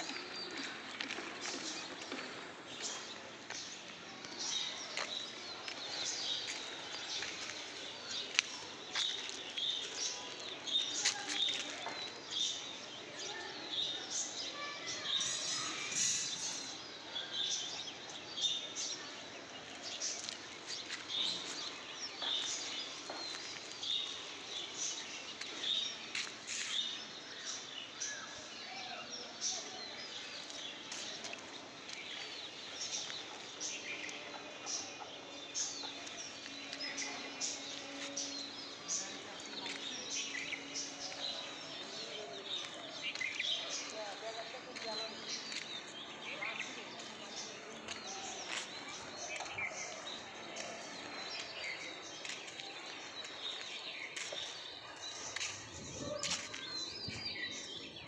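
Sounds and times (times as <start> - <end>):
outdoor background noise: 0.0 - 58.0
small birds chirping: 0.0 - 58.0.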